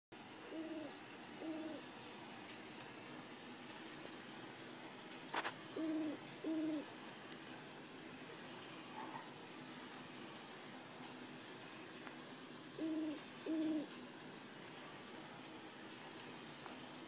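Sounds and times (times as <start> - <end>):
crickets chirping: 0.2 - 17.0.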